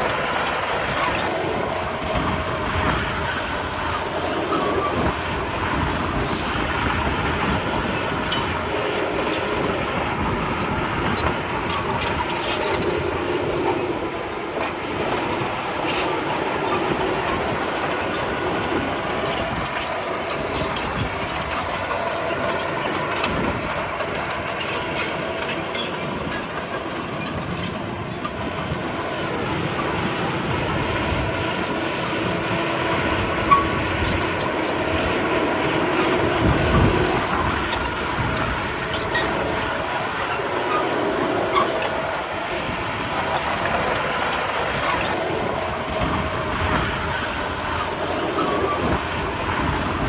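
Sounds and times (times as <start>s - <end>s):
diesel engine running: 0.0s - 50.0s
steel tracks clanking and squealing: 0.0s - 50.0s.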